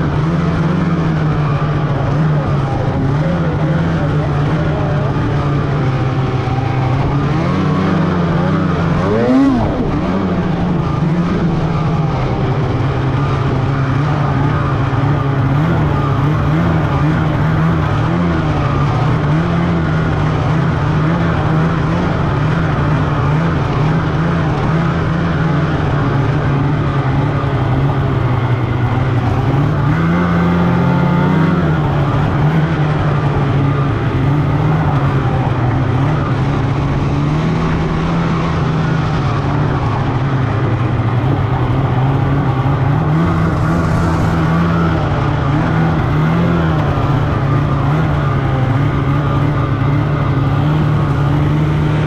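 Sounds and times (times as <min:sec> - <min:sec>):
snowmobile engine running: 0:00.0 - 0:52.0.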